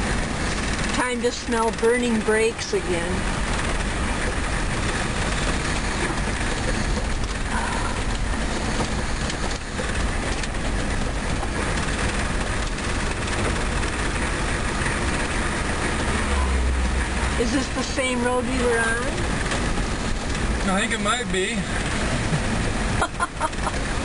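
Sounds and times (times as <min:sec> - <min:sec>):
car engine noise: 0:00.0 - 0:24.0
road and tyre rumble: 0:00.0 - 0:24.0.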